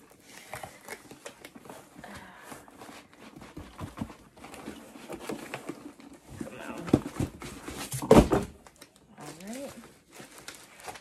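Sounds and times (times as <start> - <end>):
cardboard and paper rustling: 0.0 - 11.0.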